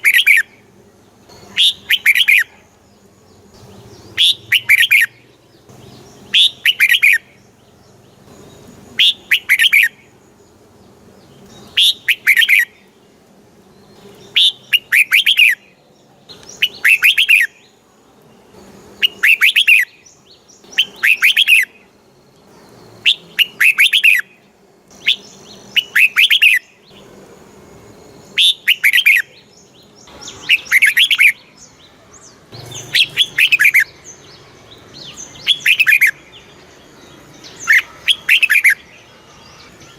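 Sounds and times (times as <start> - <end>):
bird singing chirpy phrase: 1.3 - 13.1, 13.7 - 17.8, 19.0 - 21.9, 22.6 - 27.1, 28.2 - 39.9.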